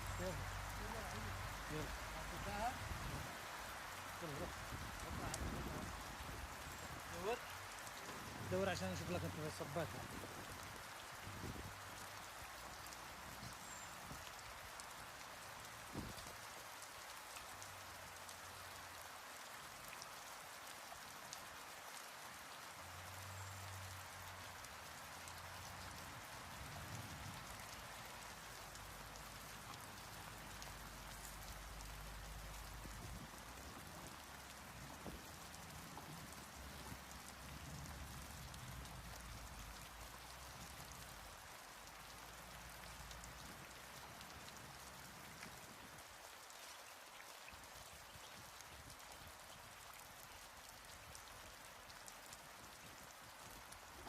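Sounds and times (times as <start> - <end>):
light rain hiss: 0.0 - 54.0.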